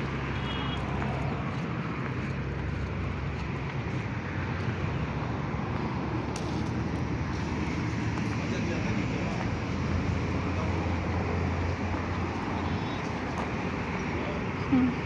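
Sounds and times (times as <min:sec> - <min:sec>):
road traffic engine hum: 0:00.0 - 0:15.0.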